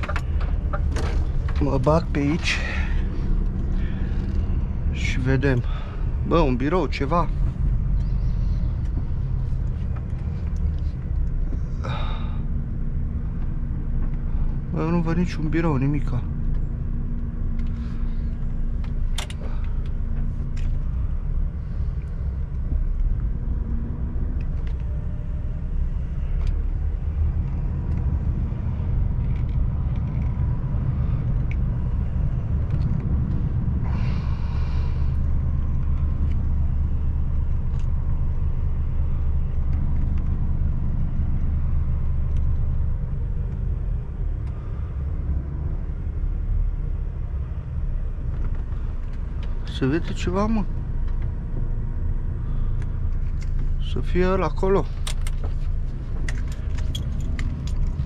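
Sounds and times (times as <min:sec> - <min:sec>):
lorry diesel engine rumbling: 0:00.0 - 0:58.0.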